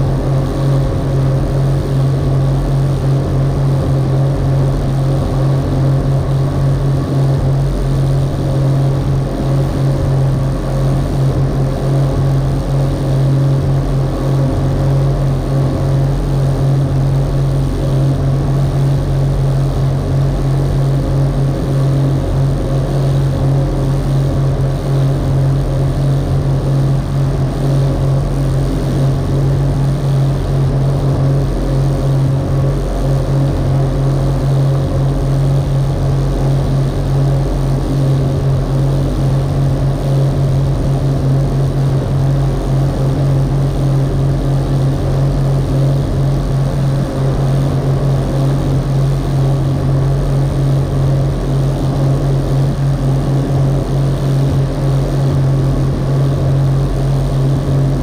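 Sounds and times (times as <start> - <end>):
boat engine droning: 0.0 - 58.0
water rushing along hull: 0.0 - 58.0.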